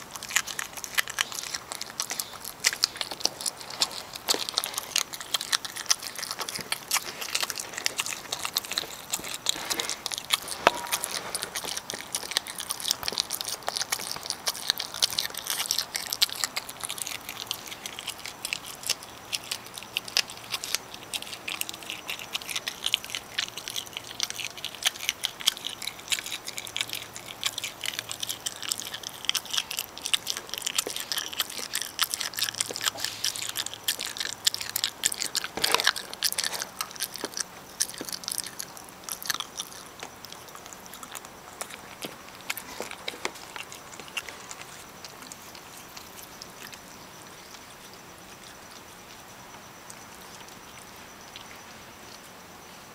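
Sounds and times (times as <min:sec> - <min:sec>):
opossum chewing with wet clicks: 0:00.0 - 0:52.9.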